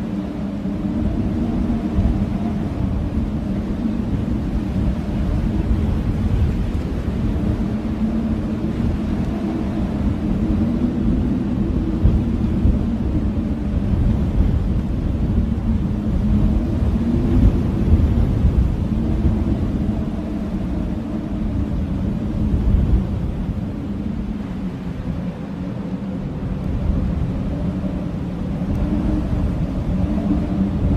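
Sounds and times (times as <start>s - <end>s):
blizzard wind howling: 0.0s - 30.9s.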